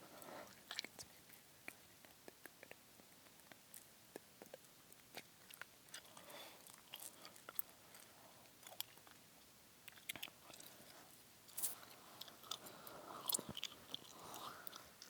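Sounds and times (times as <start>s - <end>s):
gum chewing mouth clicks: 0.5s - 9.2s, 9.8s - 10.8s, 11.5s - 15.0s.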